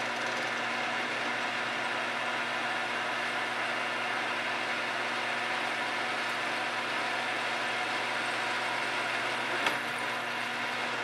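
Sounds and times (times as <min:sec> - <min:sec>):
drill press drilling steel: 0:00.0 - 0:11.0.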